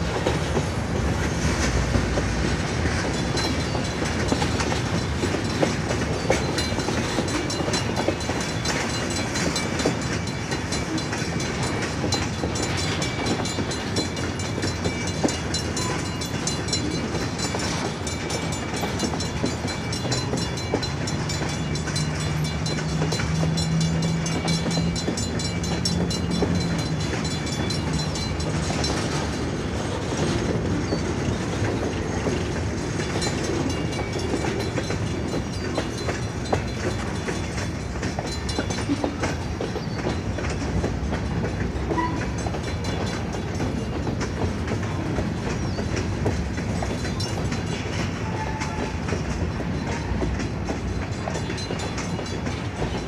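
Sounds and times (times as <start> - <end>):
clickety-clack over rail joints: 0.0 - 53.0
train wheels rumbling on rails: 0.0 - 53.0.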